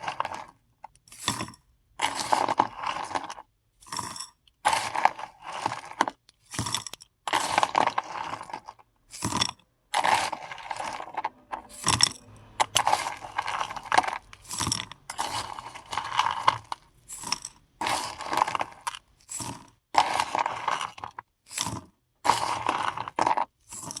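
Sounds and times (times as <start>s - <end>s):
mothball tablets clattering: 0.1s - 24.0s.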